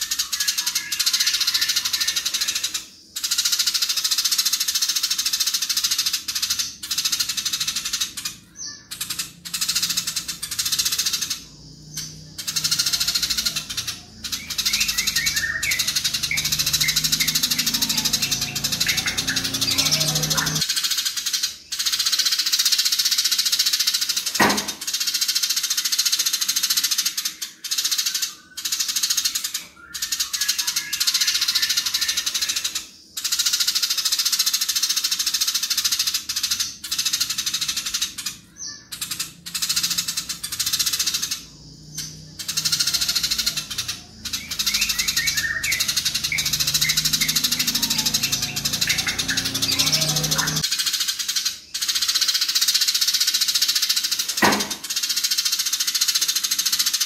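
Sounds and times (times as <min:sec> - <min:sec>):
sparrows chattering harshly: 0:00.0 - 0:57.0.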